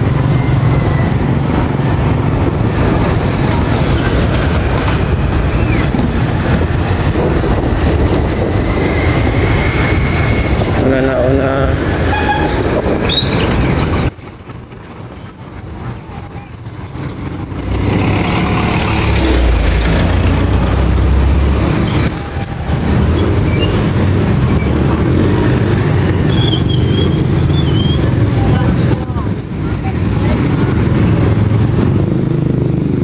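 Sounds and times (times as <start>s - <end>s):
traffic engine rumble: 0.0s - 33.0s.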